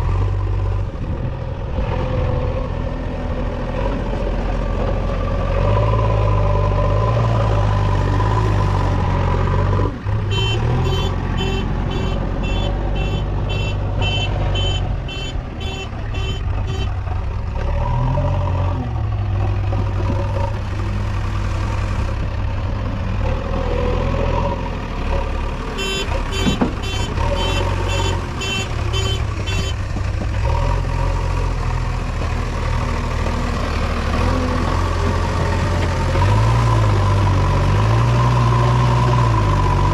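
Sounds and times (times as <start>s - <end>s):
backhoe diesel engine: 0.0s - 39.9s.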